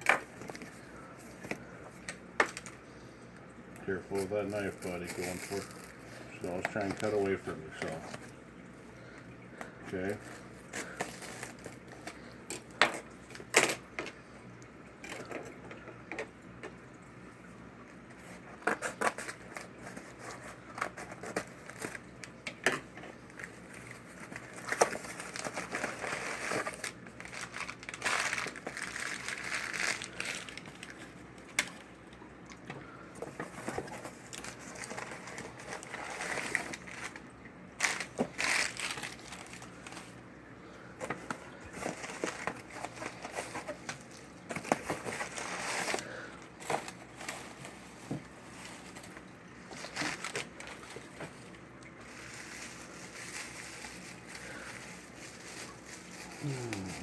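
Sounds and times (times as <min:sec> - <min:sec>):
wrapping crinkling and tearing: 0:03.8 - 0:13.6, 0:18.2 - 0:32.0, 0:33.2 - 0:40.3, 0:41.0 - 0:57.0.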